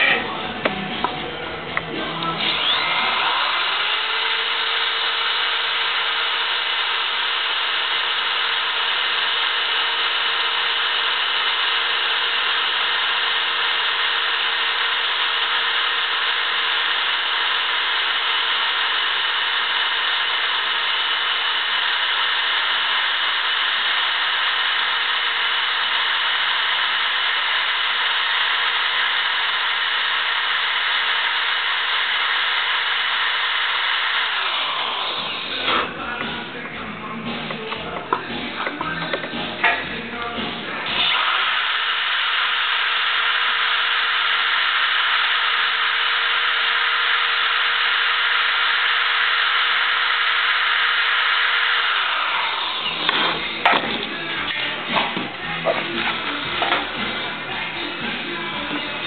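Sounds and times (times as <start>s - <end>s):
electric drill whining: 0.0s - 59.0s.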